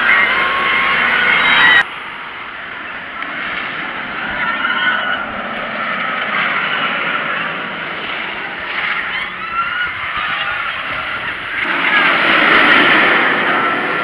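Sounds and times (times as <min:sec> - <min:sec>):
riders screaming: 0:00.0 - 0:14.0
roller coaster train rushing: 0:00.0 - 0:14.0.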